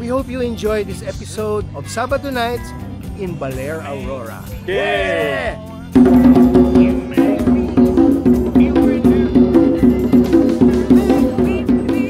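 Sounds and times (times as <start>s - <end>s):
music with percussive beat: 0.0s - 12.0s.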